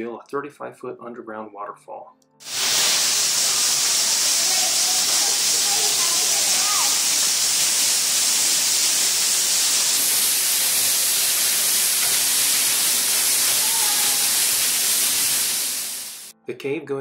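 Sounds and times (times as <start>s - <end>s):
rush of falling water: 2.4s - 16.3s.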